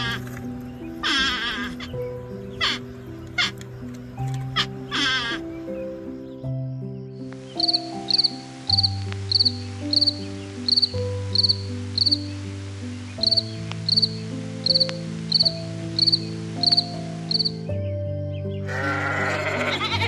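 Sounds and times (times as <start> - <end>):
cricket chirping: 0.0 - 17.6
soft background music: 0.0 - 20.0.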